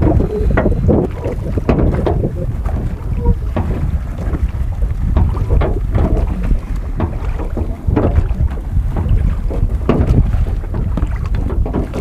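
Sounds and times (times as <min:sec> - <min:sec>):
wind blowing on microphone: 0:00.0 - 0:12.0.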